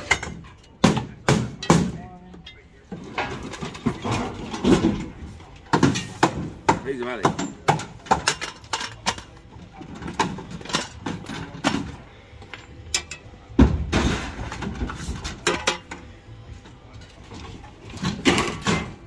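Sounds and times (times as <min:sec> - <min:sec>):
metal and plastic scrap clanking: 0:00.0 - 0:12.0, 0:12.9 - 0:16.0, 0:17.0 - 0:19.0.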